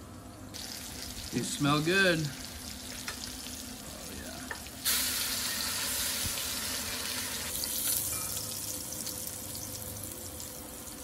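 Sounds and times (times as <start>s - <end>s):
meat sizzling in hot oil: 0.5s - 11.0s.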